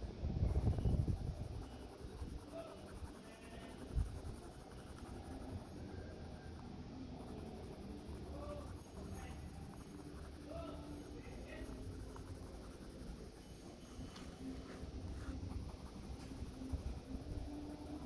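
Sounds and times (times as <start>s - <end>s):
pencil scratching on paper: 0.5s - 18.0s.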